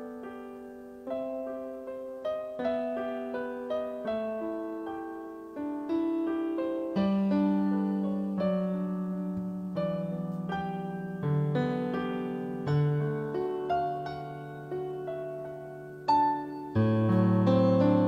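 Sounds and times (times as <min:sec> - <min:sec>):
slow gentle piano solo: 0:00.0 - 0:18.0.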